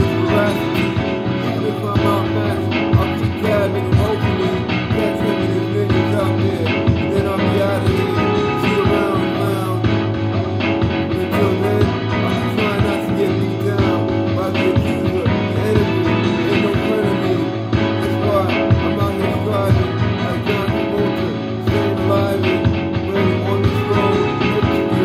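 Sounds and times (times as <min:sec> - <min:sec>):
guitar music: 0:00.0 - 0:25.0.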